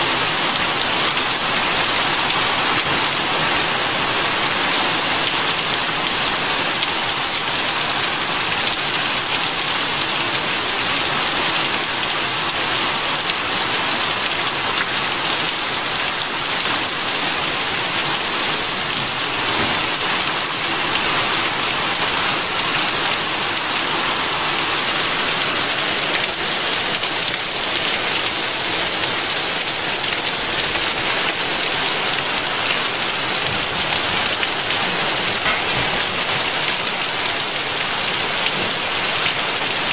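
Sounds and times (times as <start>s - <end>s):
heavy rain and hail on pavement: 0.0s - 39.9s.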